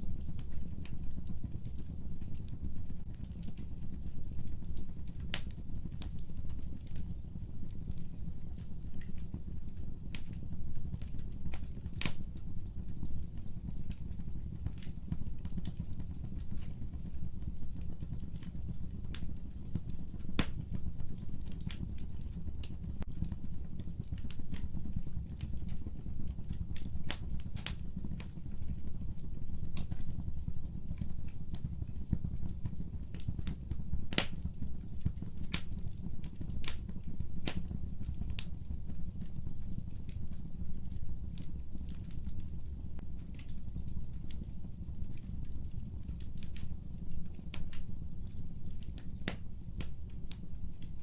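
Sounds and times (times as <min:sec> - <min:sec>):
fireplace fire crackling: 0:00.0 - 0:51.0.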